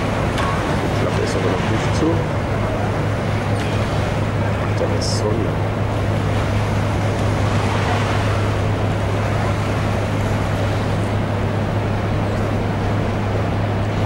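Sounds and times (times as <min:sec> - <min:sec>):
even rushing noise: 0:00.0 - 0:13.8
ship machinery humming: 0:00.0 - 0:14.0.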